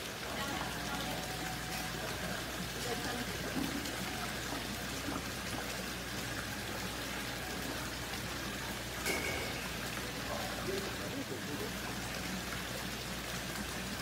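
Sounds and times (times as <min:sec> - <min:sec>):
water running and trickling: 0:00.0 - 0:14.0.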